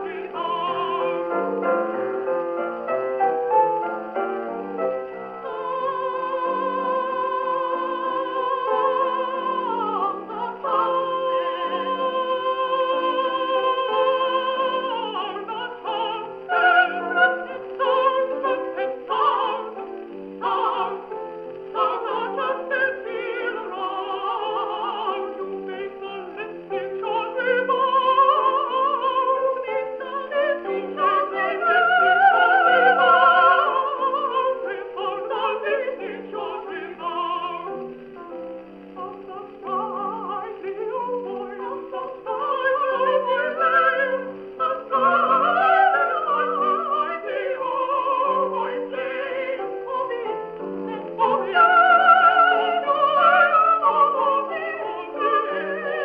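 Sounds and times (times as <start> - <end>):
women singing duet: 0.0 - 2.1, 5.1 - 56.0
piano: 0.0 - 56.0.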